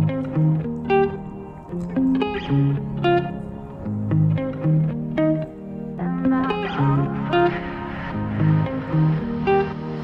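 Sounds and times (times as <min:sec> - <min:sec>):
plucked melody music: 0:00.0 - 0:10.0.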